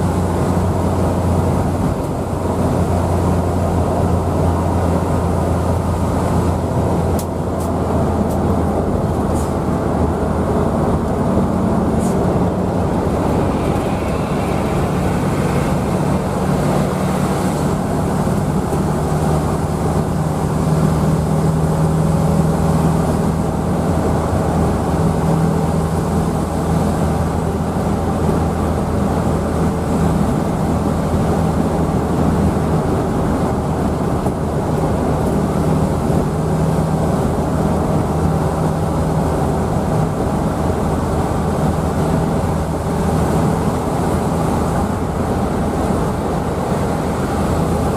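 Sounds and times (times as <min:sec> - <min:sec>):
bus engine drone: 0:00.0 - 0:47.9
road noise inside cabin: 0:00.0 - 0:47.9.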